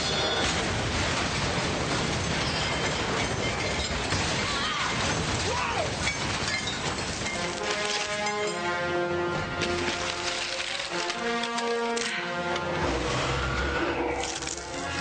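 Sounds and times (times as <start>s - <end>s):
crashing and shattering debris: 0.0s - 13.2s, 14.1s - 15.0s.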